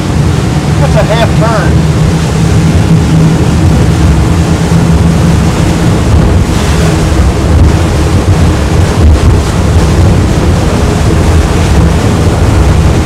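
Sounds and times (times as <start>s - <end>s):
outboard engines running: 0.0s - 13.0s
water rushing off hull: 0.0s - 13.0s
wind buffeting microphone: 0.0s - 13.0s.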